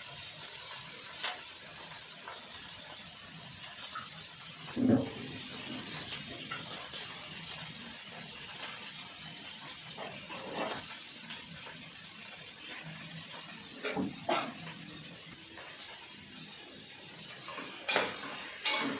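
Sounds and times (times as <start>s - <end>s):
kitchen hiss: 0.0s - 18.9s.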